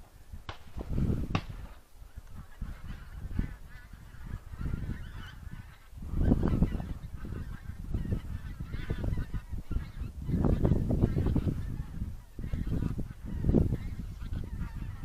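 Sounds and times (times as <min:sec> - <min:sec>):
wind buffeting microphone: 0:00.0 - 0:15.0
geese honking faintly: 0:00.1 - 0:15.0.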